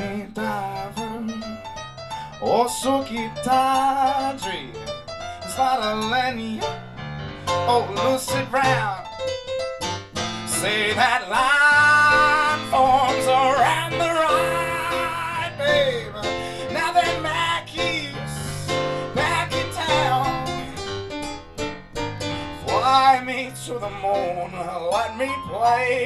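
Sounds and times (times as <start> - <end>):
electric keyboard chords: 0.0 - 26.0.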